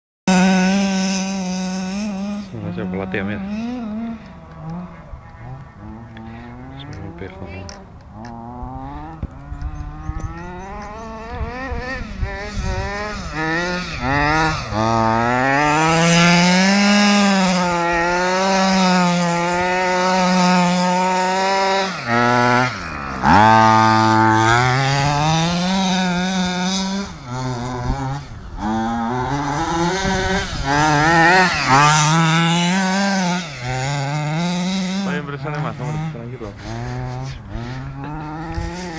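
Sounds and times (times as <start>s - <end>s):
two-stroke engine revving: 0.3s - 38.9s.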